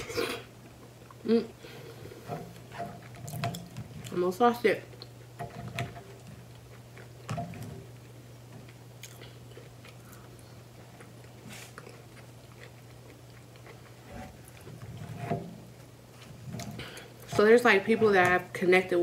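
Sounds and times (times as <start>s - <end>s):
person chewing: 0.0s - 4.2s, 4.9s - 17.3s
steady low hum: 0.0s - 19.0s.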